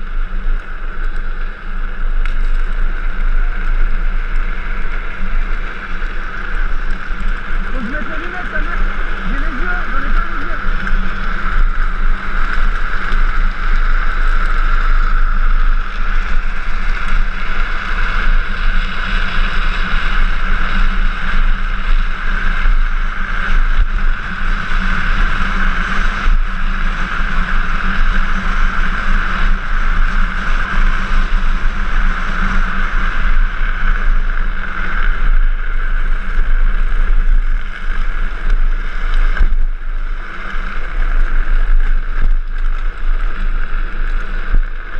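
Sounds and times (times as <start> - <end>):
plastic wheels rolling on asphalt: 0.0 - 44.9
wind rushing over microphone: 0.0 - 44.9.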